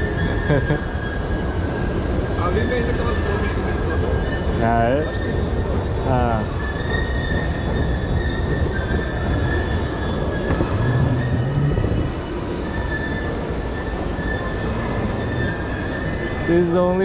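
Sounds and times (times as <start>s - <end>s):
train rumbling on tracks: 0.0s - 17.0s
wheels squealing on rails: 0.0s - 17.0s.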